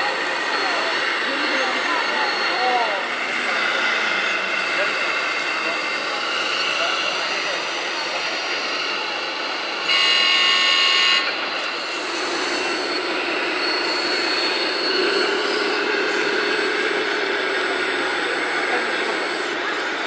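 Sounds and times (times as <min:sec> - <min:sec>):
multi-pitched steady tone: 0:00.0 - 0:20.0
noisy background: 0:00.0 - 0:20.0
small electric motors whining: 0:00.0 - 0:20.0
thin high whine: 0:00.0 - 0:20.0.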